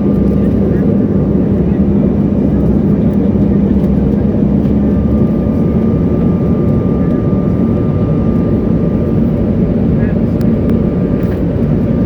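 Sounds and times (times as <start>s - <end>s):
jet engines and airflow: 0.0s - 12.0s.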